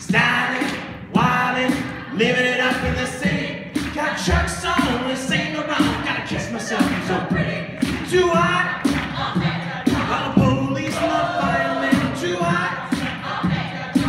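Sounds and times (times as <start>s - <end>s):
a cappella group singing: 0.0s - 14.0s
steady vocal beat: 0.0s - 14.0s.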